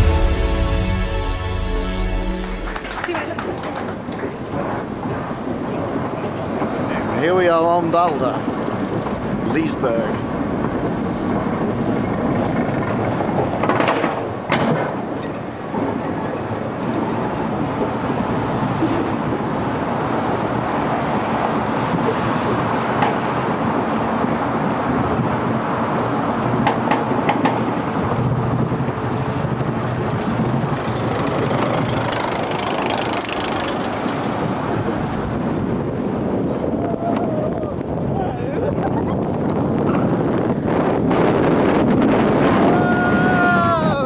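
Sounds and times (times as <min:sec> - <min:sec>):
roller coaster cars rattling on track: 0:02.6 - 0:44.0.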